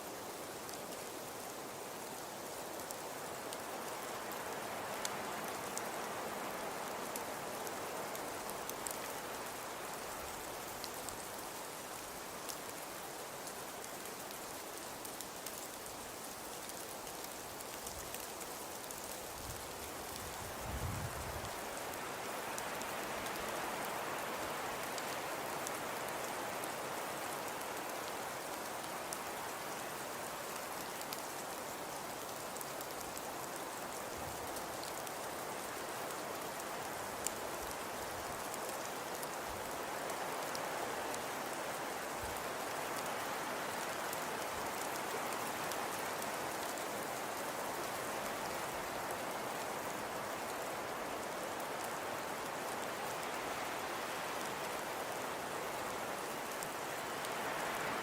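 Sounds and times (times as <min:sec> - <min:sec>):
fire crackling in a fireplace: 0:00.0 - 0:58.0.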